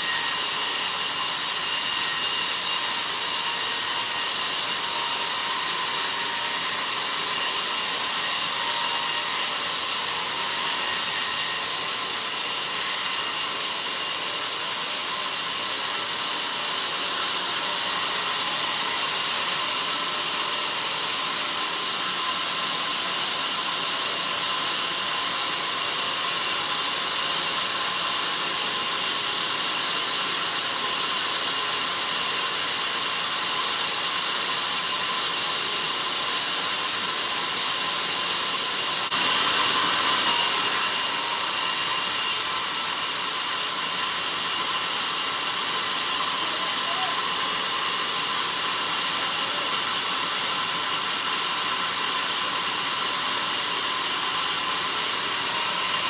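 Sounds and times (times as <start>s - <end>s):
band saw cutting through log: 0.0s - 56.0s.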